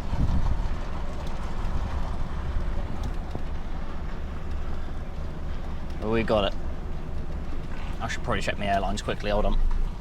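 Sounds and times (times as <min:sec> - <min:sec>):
truck diesel engine rumbling: 0:00.0 - 0:10.0.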